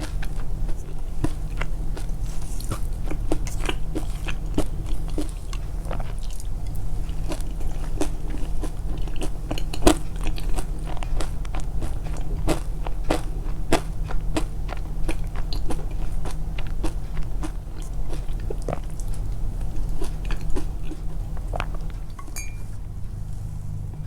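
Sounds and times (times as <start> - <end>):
chewing and crunching: 0.0 - 24.0
steady low hum: 0.0 - 24.0.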